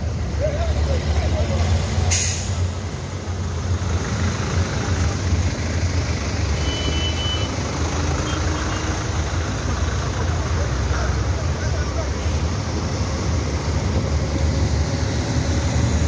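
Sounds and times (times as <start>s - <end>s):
vehicle engines idling: 0.0s - 16.0s.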